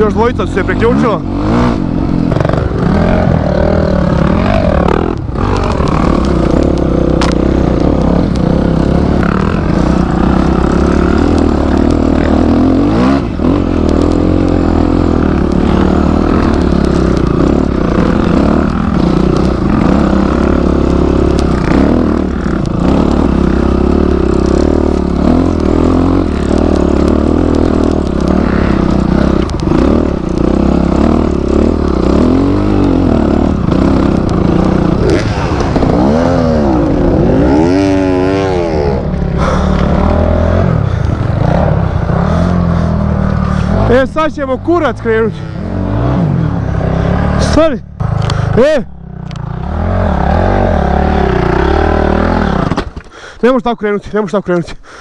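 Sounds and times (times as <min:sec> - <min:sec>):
motorcycle engines idling: 0:00.0 - 0:55.0.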